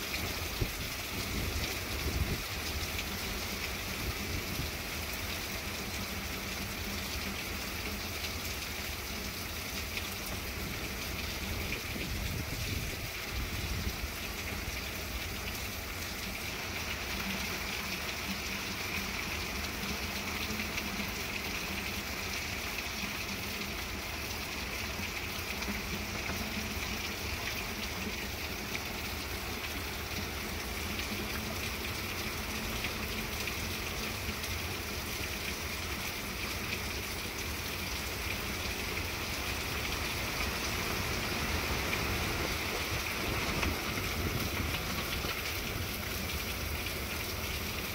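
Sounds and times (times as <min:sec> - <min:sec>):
heavy rain on trees: 0:00.0 - 0:47.9.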